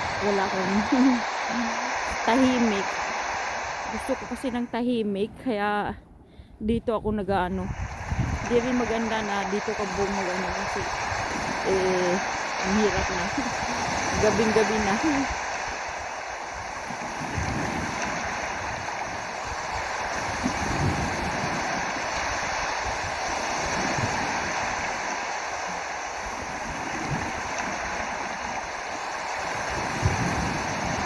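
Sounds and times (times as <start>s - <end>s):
water rushing: 0.0s - 5.7s, 7.5s - 31.0s
wind rumble on microphone: 0.0s - 31.0s.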